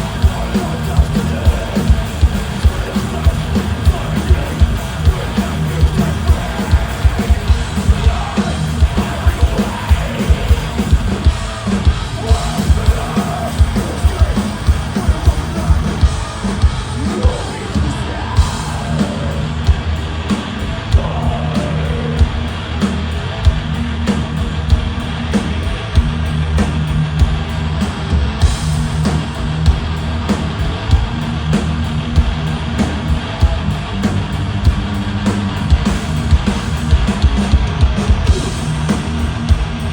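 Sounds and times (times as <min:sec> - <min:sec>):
rapid drum hits: 0:00.0 - 0:39.9
thrash metal band playing live: 0:00.0 - 0:39.9.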